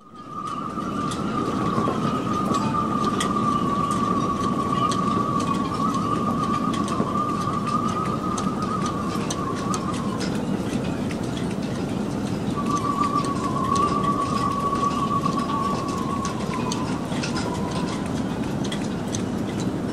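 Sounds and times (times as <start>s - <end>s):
wind whistling through rigging: 0.0s - 19.9s.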